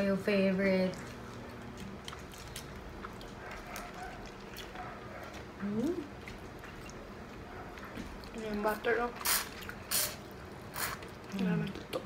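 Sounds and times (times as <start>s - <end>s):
wet chewing: 0.6s - 12.0s.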